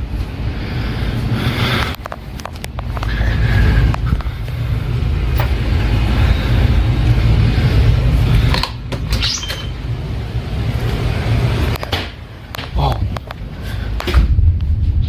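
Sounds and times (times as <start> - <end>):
loud low rumble: 0.0 - 9.1, 9.7 - 15.0.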